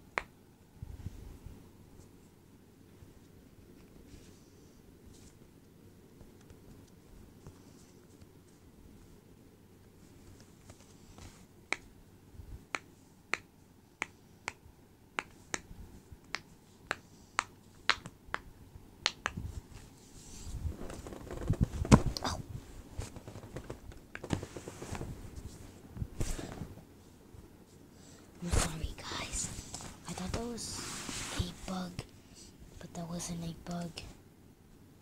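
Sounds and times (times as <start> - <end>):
rubbing and handling noise: 0.8 - 14.6, 19.0 - 34.2.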